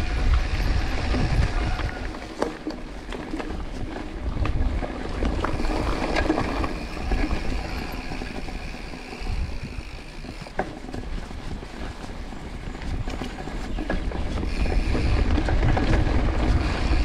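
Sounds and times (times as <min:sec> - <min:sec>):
bike clicks and rattles: 0:00.0 - 0:17.0
tyres rolling over dirt: 0:00.0 - 0:17.0
wind buffeting microphone: 0:00.0 - 0:17.0.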